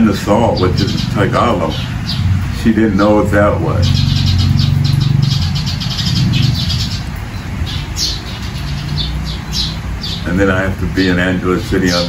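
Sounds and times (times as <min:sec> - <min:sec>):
birds chirping: 0:00.0 - 0:12.0
low mechanical hum: 0:00.0 - 0:12.0.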